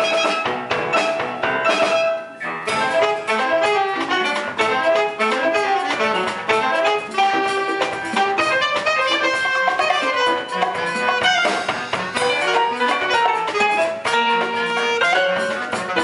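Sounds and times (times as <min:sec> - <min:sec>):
live mambo band playing: 0:00.0 - 0:16.0.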